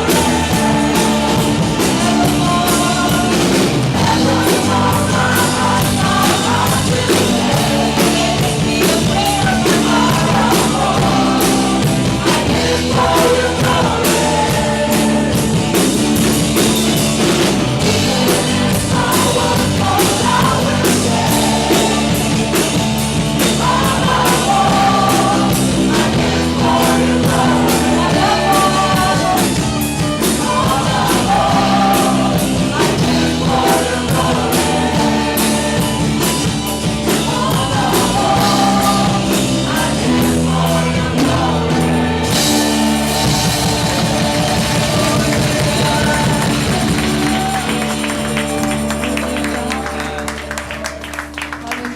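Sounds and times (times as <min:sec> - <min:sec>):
person singing: 0:00.0 - 0:15.9, 0:17.2 - 0:50.6
rock-style praise band playing: 0:00.0 - 0:51.9.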